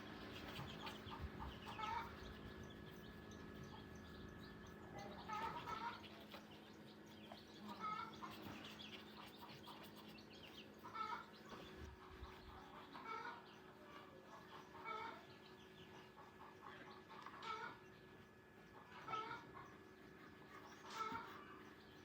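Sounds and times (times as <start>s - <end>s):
chickens clucking: 0.0s - 22.0s
faint background hum: 0.0s - 22.0s.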